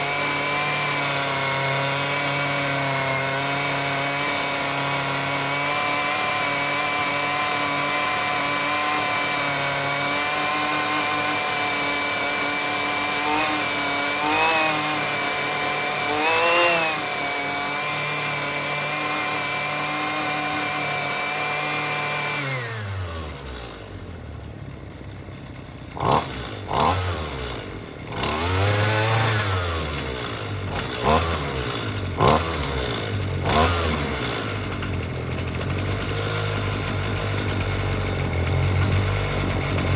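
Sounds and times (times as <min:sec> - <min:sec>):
string trimmer engine revving: 0:00.0 - 0:39.9.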